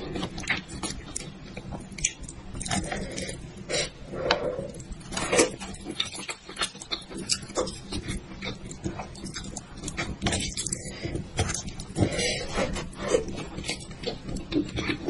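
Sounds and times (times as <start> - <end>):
wet chewing and squelching: 0.0 - 15.0.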